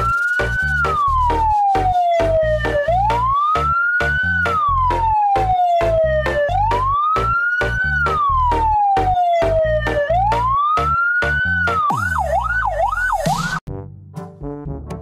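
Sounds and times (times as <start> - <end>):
siren wailing: 0.0 - 13.6
music with steady beat and bass: 0.0 - 15.0.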